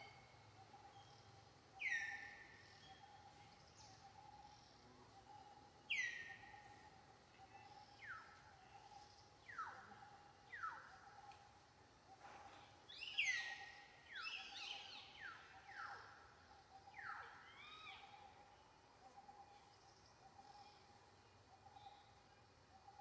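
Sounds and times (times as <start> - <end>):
faint steady drone: 0.0 - 23.0.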